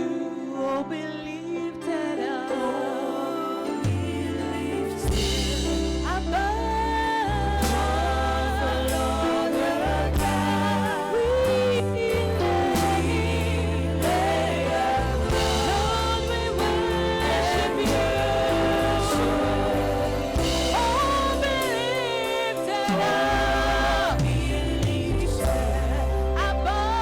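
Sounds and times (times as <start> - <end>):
voices singing with vibrato: 0.0 - 27.0
bass and keyboard chords: 3.6 - 27.0.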